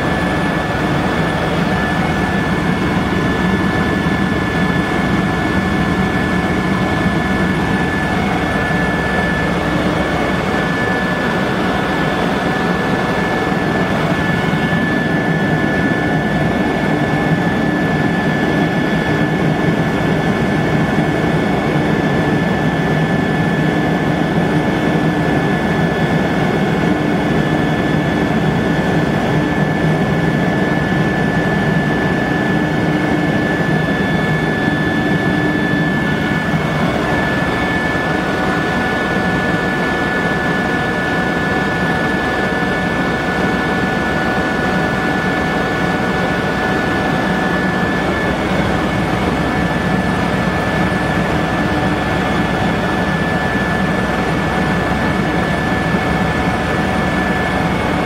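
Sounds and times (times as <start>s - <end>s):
engine and rotor rumble: 0.0s - 58.0s
helicopter turbine whine: 0.0s - 58.0s.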